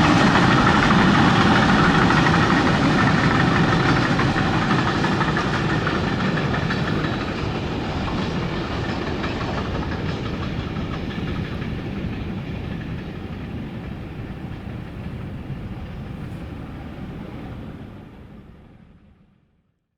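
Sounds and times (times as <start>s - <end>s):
train rolling on rails: 0.0s - 19.5s.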